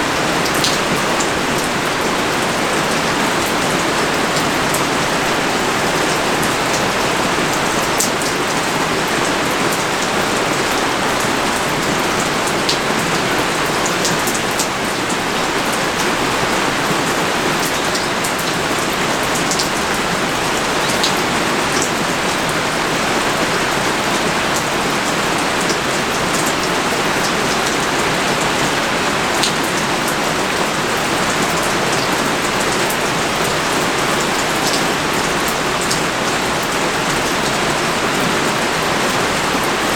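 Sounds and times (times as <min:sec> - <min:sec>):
pouring rain: 0:00.0 - 0:39.9.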